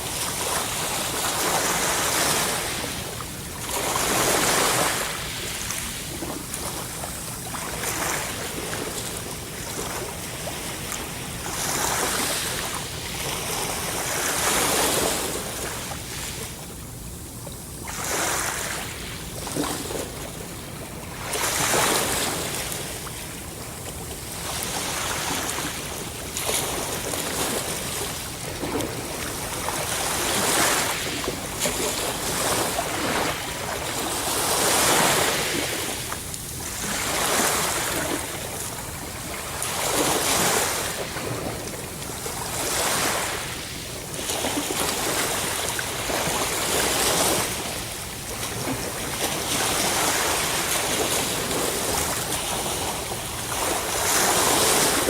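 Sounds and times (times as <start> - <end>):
ocean waves breaking on shore: 0.0 - 17.1, 17.8 - 55.0.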